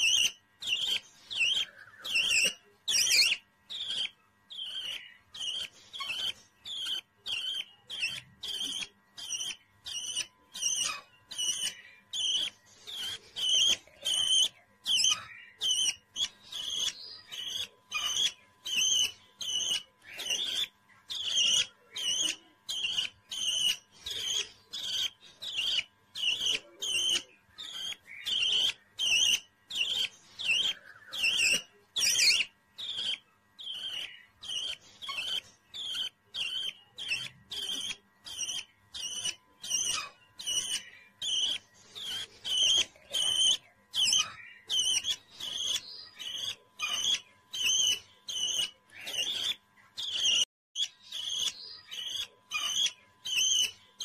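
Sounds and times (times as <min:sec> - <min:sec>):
budgerigar chirping: 0:00.0 - 0:54.0.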